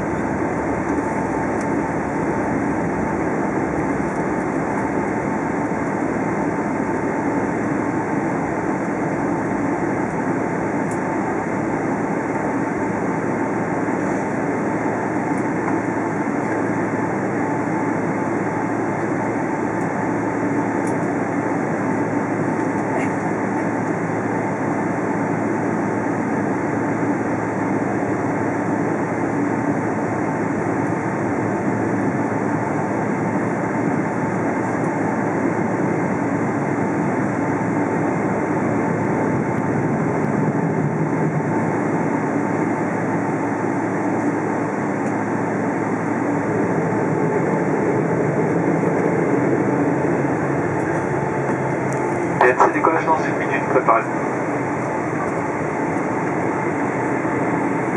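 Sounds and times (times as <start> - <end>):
airliner rolling rumble: 0.0 - 57.9
faint steady whine: 0.0 - 57.9
jet engine drone in cabin: 0.0 - 57.9.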